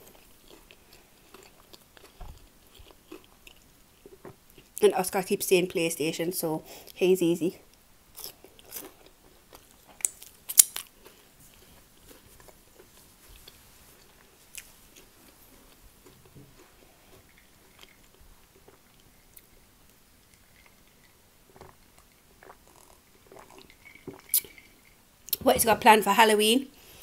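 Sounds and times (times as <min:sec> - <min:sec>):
chewing and mouth sounds: 0:00.0 - 0:04.8, 0:08.2 - 0:25.4.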